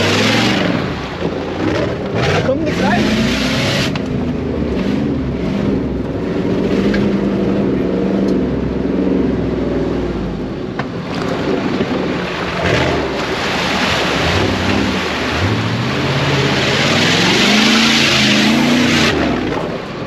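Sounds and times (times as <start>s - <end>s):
engine revving under load: 0.0s - 20.0s
water rushing and splashing: 0.0s - 20.0s.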